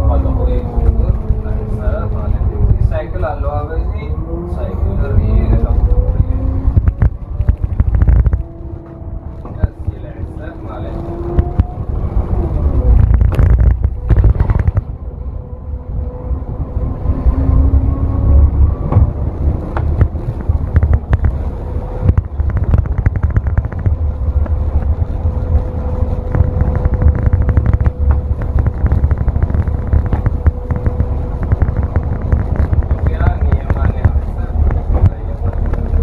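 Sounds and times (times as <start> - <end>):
bus engine rumble: 0.0 - 36.0
steady whine: 5.0 - 36.0.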